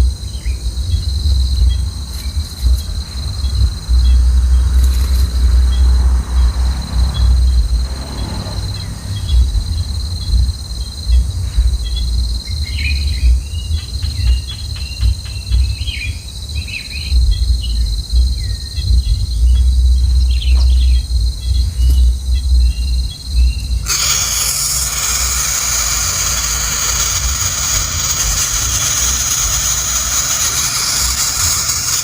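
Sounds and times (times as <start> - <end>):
high insect-like drone: 0.0 - 32.0
low uneven rumble: 0.0 - 32.0.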